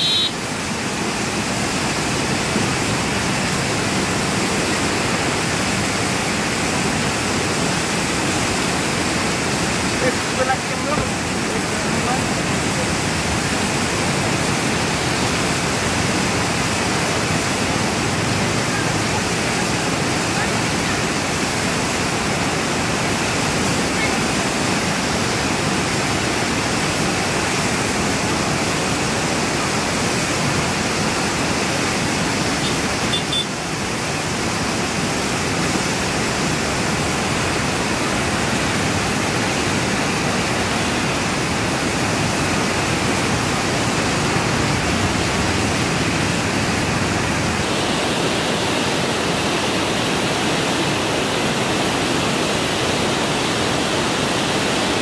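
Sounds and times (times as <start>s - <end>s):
flooded river roaring: 0.0s - 55.0s.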